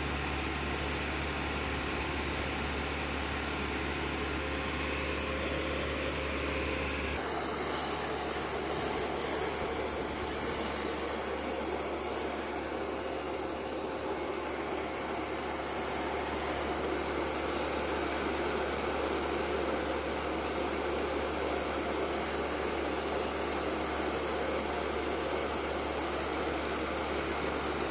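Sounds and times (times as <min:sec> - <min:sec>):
concrete mixer pump running: 0:00.0 - 0:27.9.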